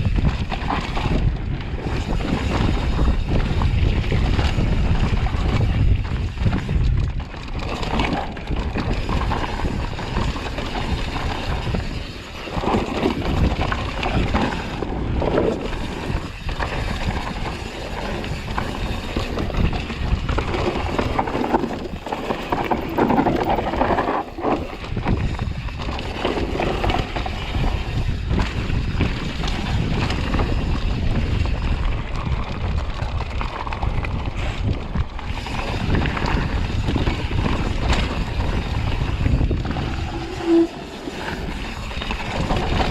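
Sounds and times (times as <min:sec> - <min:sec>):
bike knocking and rattling: 0:00.0 - 0:42.9
tyres rumbling on dirt: 0:00.0 - 0:42.9
wind noise on microphone: 0:00.0 - 0:42.9.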